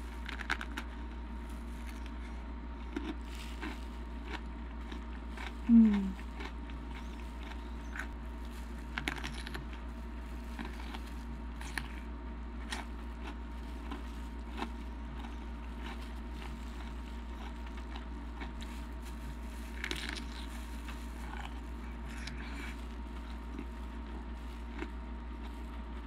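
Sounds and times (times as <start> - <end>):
crunchy chewing: 0.0 - 26.0
steady low hum: 0.0 - 26.0.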